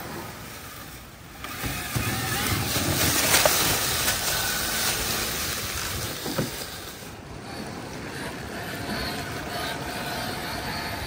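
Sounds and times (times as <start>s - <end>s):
rustling leaves and water: 0.0s - 11.0s
toy motor and gears whine: 1.4s - 11.0s.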